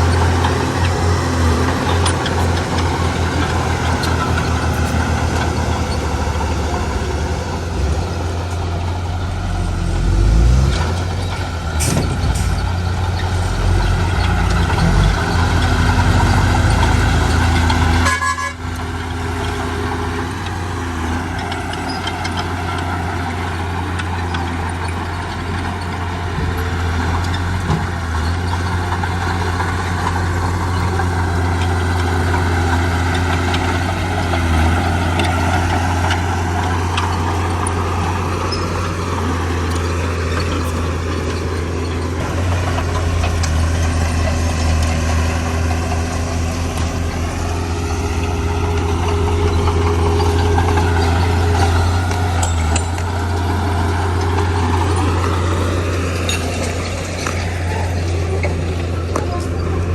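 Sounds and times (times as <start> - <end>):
diesel construction machinery drone: 0.0 - 59.9.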